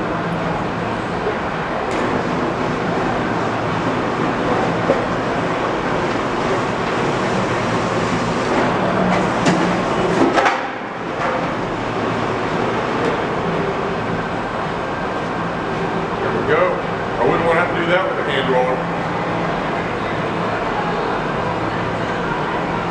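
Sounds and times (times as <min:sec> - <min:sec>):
roll former machine humming: 0:00.0 - 0:22.9.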